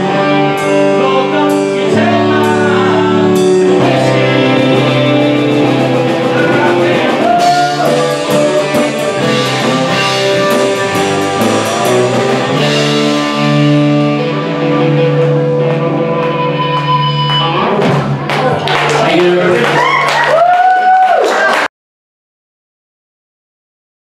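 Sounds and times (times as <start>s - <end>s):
electric guitar lead: 0.0s - 20.4s
rock band playing: 0.0s - 21.1s.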